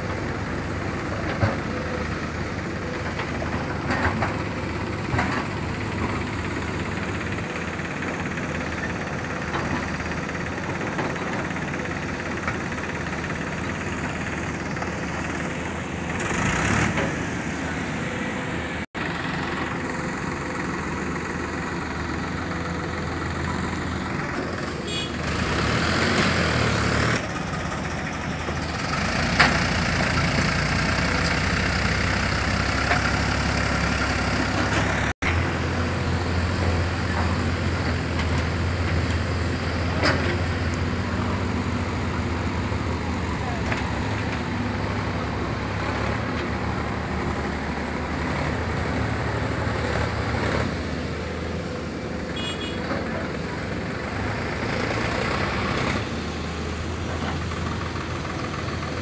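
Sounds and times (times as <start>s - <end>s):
diesel engine working under load: 0.0s - 59.0s.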